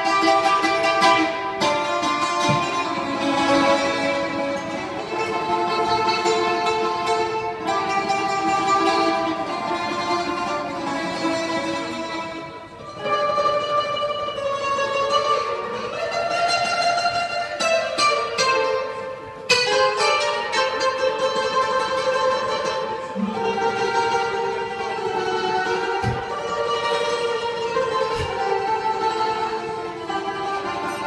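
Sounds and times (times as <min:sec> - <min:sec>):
bouzoukis playing a melody: 0:00.0 - 0:31.0.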